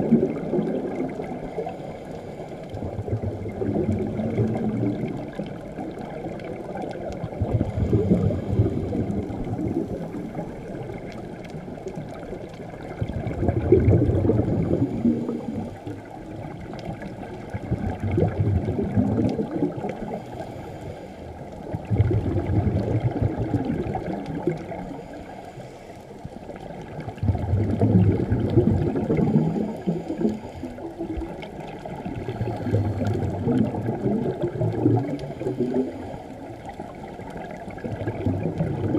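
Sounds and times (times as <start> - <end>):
underwater exhaled bubbles: 0.0 - 38.9.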